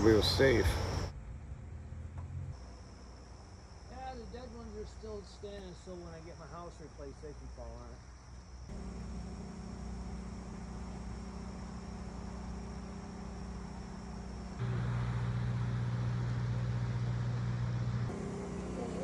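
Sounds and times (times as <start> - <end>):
engine humming: 0.0 - 6.7, 8.6 - 19.0.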